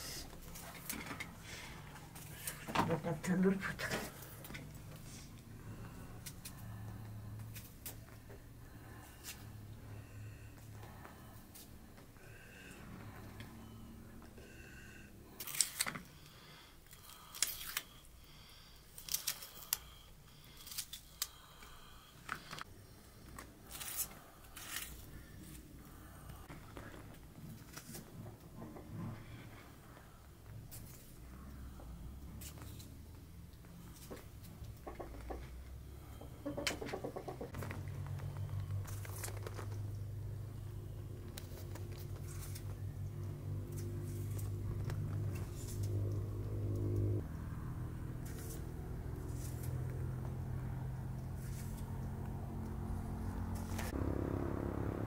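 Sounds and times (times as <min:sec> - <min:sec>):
steady low hum: 0:00.0 - 0:36.6, 0:37.5 - 0:55.0.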